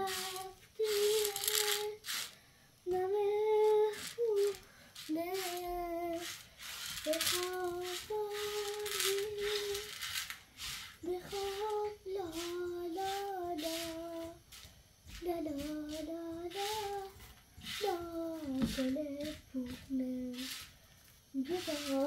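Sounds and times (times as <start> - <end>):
high voice singing unaccompanied: 0.0 - 2.3, 2.9 - 10.1, 10.9 - 14.4, 15.1 - 20.7, 21.4 - 22.0.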